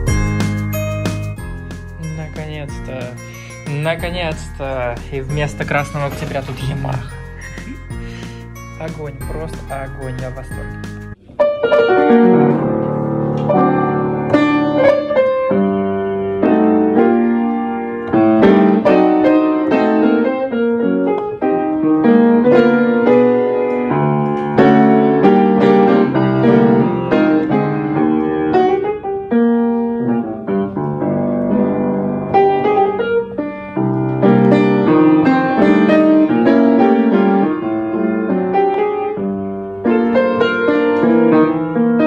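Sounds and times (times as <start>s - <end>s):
piano playing: 0.0s - 42.0s.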